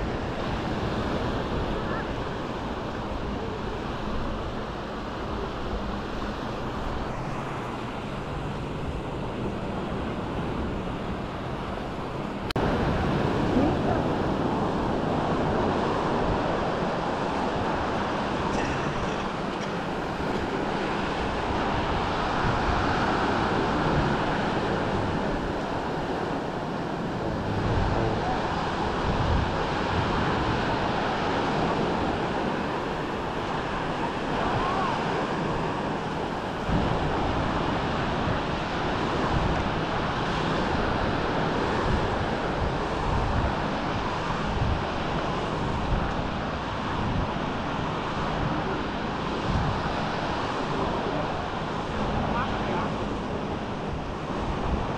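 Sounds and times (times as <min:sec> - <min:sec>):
waves washing onto beach: 0:00.0 - 0:54.9
wind buffeting microphone: 0:00.0 - 0:54.9.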